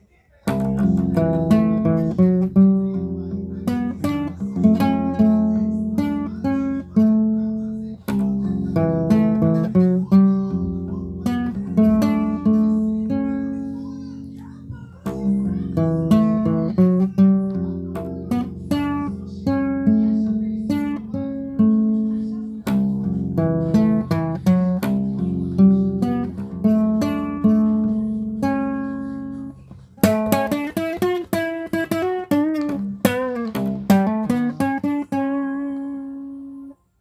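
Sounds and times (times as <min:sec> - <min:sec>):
acoustic guitar plucked melody: 0:00.3 - 0:37.0.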